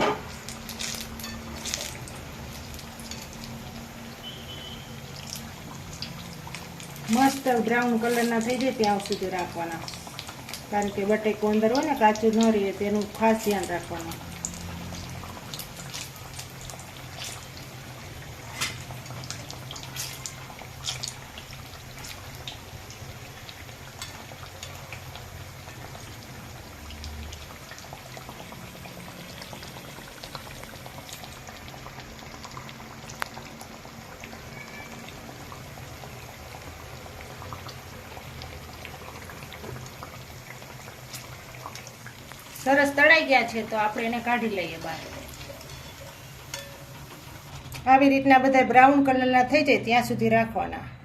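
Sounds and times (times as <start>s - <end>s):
potato slices deep-frying in oil: 0.0s - 50.7s.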